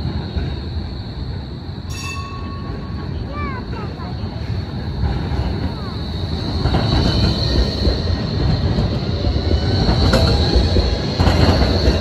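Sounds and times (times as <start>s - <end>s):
tram rumbling past: 0.0s - 12.0s.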